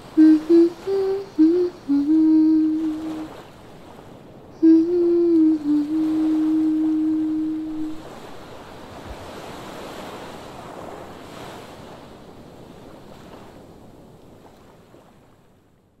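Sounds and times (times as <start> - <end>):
sea surf: 0.0 - 13.7.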